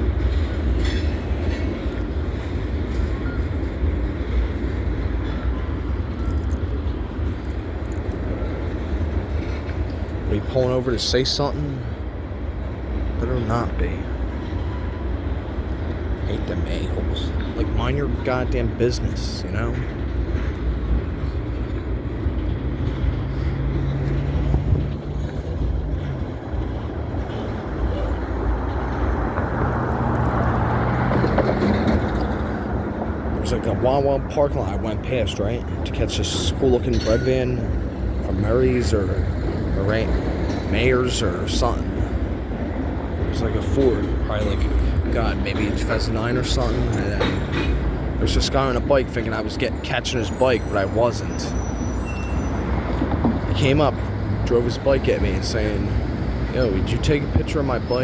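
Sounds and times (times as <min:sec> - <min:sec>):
freight train rumbling on track: 0:00.0 - 0:58.0
light wind noise: 0:00.0 - 0:58.0.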